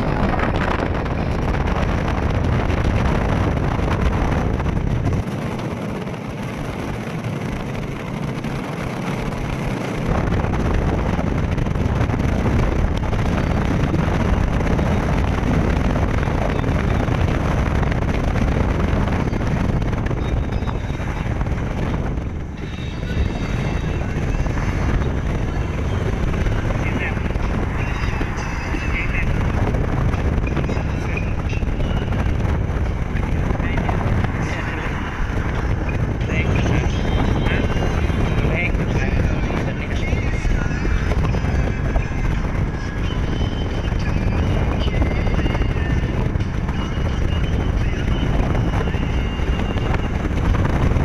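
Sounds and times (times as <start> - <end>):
road noise inside car: 0.0 - 51.0
wind buffeting on microphone: 0.0 - 51.0.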